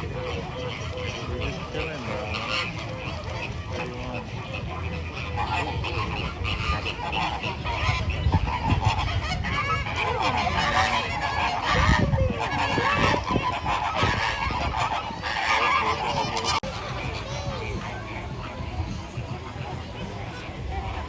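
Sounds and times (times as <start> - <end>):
flamingos honking: 0.0 - 21.0.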